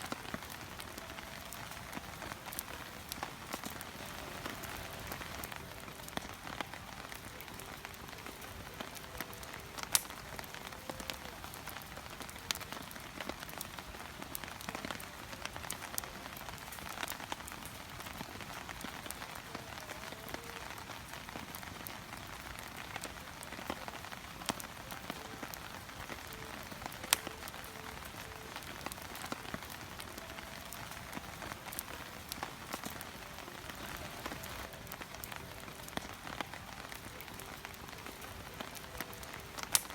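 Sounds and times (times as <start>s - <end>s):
campfire crackling: 0.0s - 39.9s
loud fire pops: 0.0s - 39.9s.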